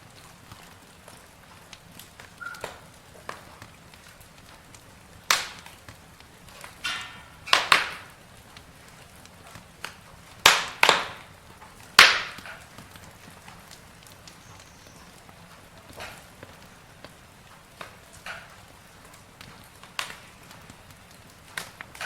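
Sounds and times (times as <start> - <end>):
campfire pops and snaps: 0.0 - 22.0.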